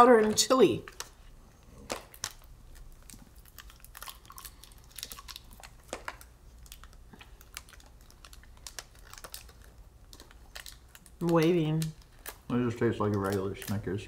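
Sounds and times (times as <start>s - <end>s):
plastic wrapper crinkling: 0.2s - 14.0s.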